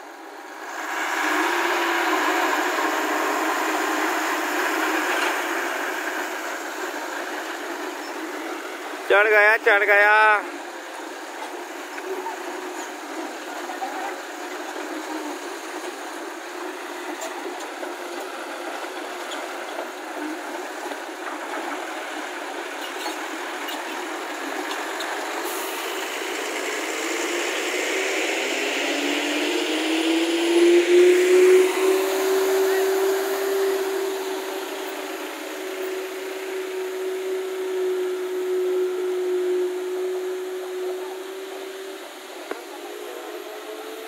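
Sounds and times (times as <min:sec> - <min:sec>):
lorry diesel engine pulling away: 0:00.0 - 0:09.8, 0:10.4 - 0:44.0.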